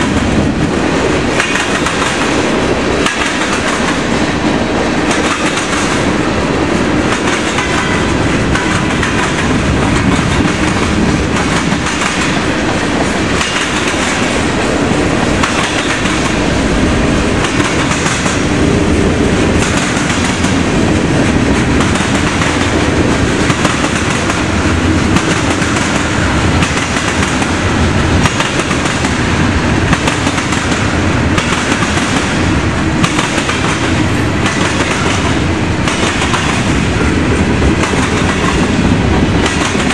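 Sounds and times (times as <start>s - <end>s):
train wheels knocking over crossing: 0.0s - 6.3s, 7.0s - 39.9s.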